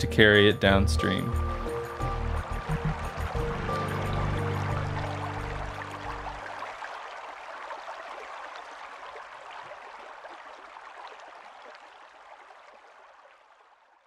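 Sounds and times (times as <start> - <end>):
river water flowing: 0.6 - 14.0.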